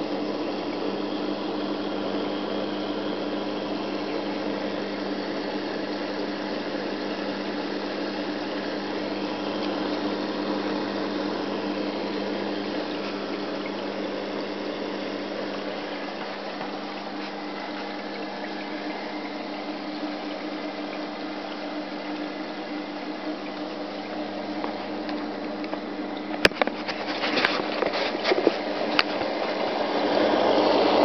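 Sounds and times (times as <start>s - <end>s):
aquarium water circulating: 0.0s - 31.0s
pump hum: 0.0s - 31.0s.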